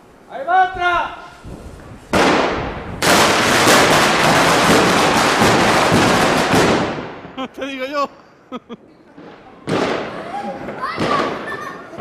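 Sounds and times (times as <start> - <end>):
firecrackers going off: 1.2 - 7.8, 8.7 - 12.0.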